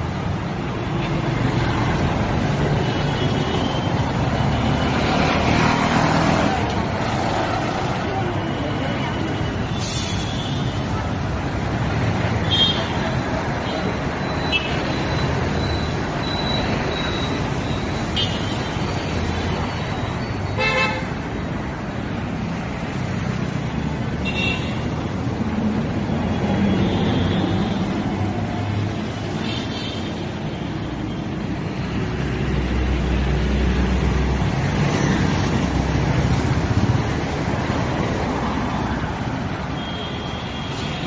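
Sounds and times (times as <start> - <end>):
scooters and cars passing: 0.0 - 41.0.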